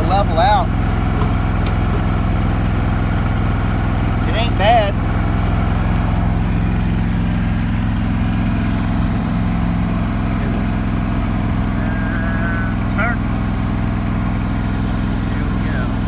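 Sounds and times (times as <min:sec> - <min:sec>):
welder generator engine running: 0:00.0 - 0:16.0.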